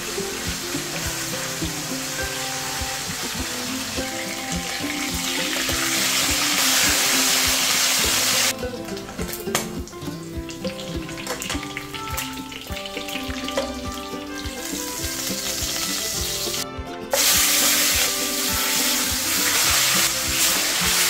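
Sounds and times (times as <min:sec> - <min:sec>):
pork chops sizzling in oil: 0:00.0 - 0:08.5, 0:10.6 - 0:21.0
background music with a beat: 0:00.0 - 0:21.0.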